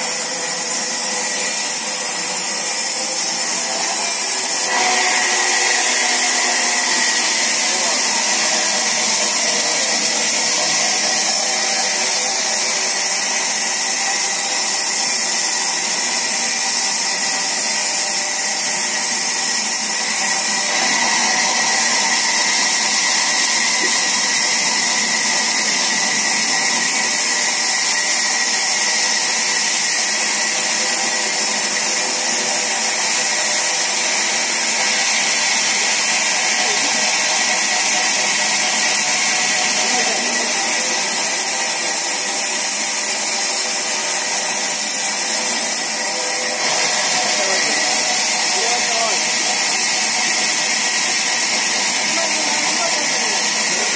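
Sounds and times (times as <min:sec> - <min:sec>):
sawmill saw running: 0:00.0 - 0:53.9.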